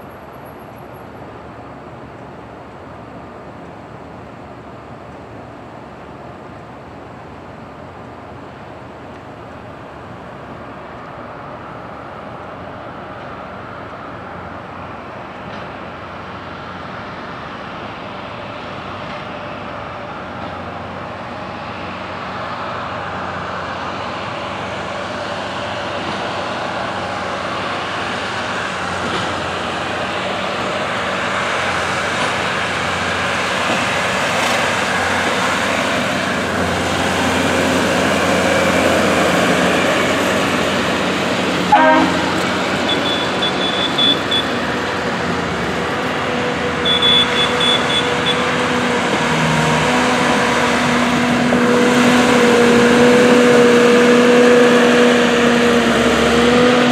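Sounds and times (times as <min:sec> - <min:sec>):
rail equipment engine running: 0:00.0 - 0:56.9.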